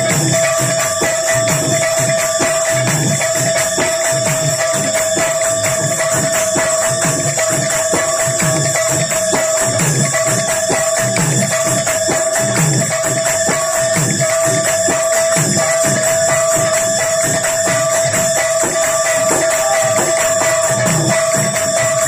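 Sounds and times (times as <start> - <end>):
barrel drums beating: 0.0 - 22.0.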